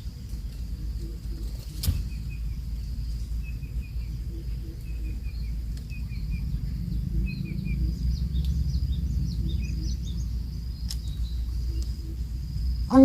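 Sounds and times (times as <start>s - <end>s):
high insect whine: 0.0s - 13.0s
low wind rumble: 0.0s - 13.0s
deep bird hoots: 0.5s - 13.0s
high bird chirps: 0.5s - 13.0s.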